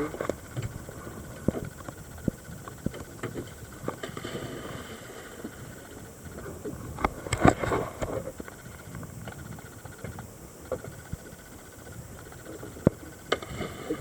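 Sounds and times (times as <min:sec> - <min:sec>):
faint underwater clicks and knocks: 0:00.0 - 0:04.4, 0:05.3 - 0:14.0
low steady hiss: 0:00.0 - 0:14.0.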